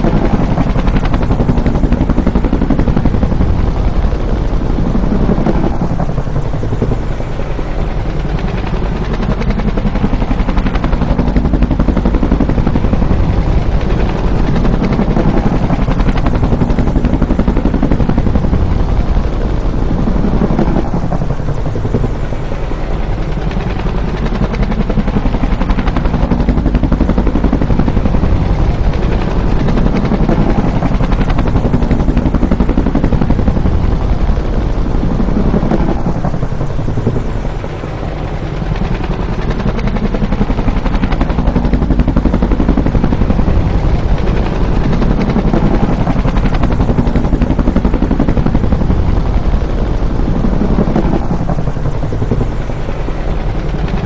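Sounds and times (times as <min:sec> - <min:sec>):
helicopter rotor chopping: 0:00.0 - 0:54.0.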